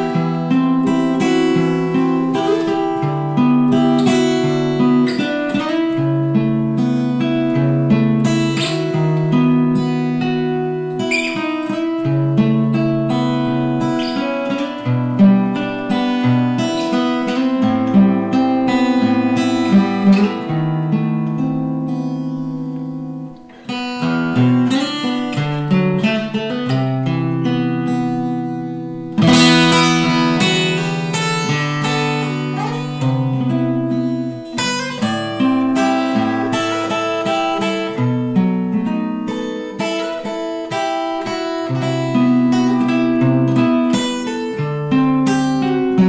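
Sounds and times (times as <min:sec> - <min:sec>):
fingerstyle acoustic guitar: 0:00.0 - 0:46.0.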